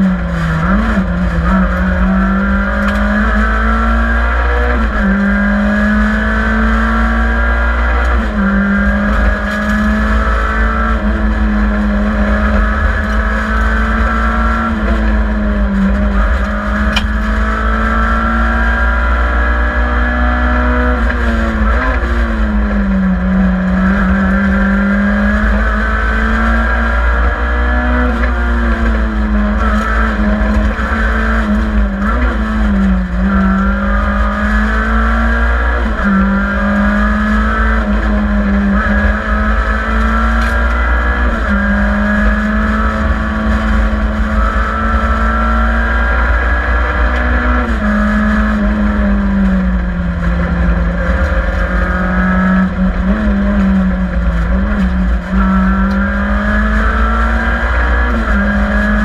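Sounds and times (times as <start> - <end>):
rally car engine revving: 0.0 - 59.0
road and tyre rumble: 0.0 - 59.0.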